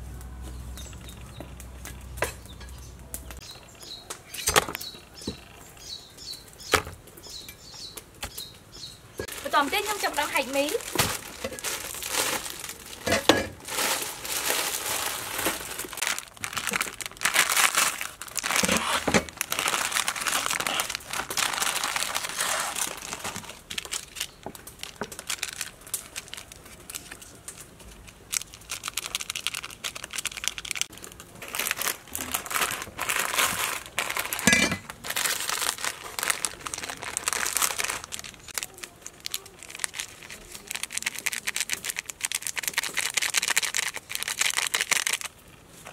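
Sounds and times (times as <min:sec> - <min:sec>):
plastic wrapping crinkling and tearing: 0:00.0 - 0:07.1, 0:09.2 - 0:45.9.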